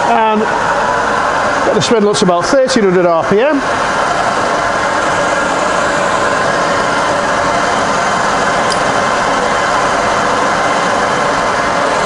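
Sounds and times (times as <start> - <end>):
milling machine running: 0.0 - 12.0.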